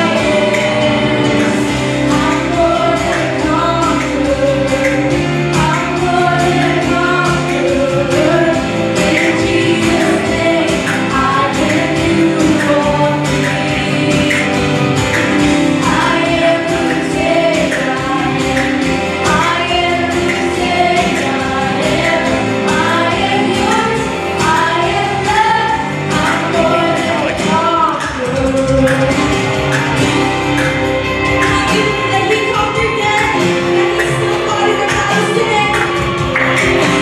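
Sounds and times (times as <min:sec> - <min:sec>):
stage keyboard: 0:00.0 - 0:37.0
steady beat: 0:00.0 - 0:37.0
women singing: 0:00.0 - 0:37.0.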